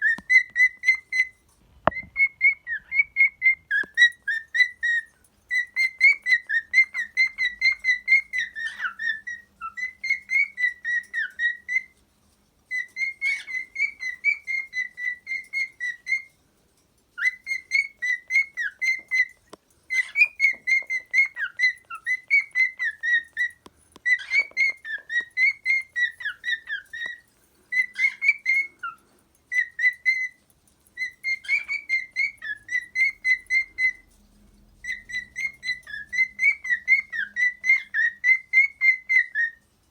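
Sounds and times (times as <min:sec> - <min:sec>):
cockatiel whistling: 0:00.0 - 0:12.0, 0:12.7 - 0:16.3, 0:17.2 - 0:30.4, 0:31.0 - 0:34.1, 0:34.8 - 0:39.6.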